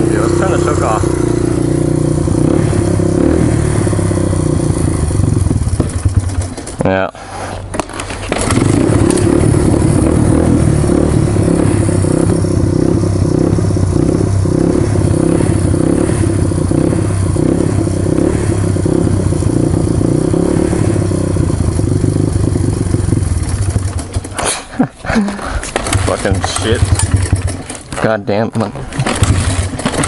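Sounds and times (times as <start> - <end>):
motorcycle engine running: 0.0 - 7.1, 7.8 - 30.0.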